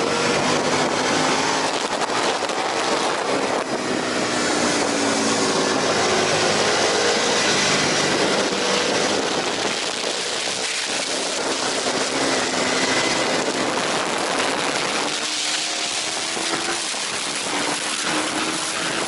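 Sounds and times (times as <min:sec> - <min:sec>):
motorcycle engine at speed: 0:00.0 - 0:19.0
wind rush on microphone: 0:00.0 - 0:19.0.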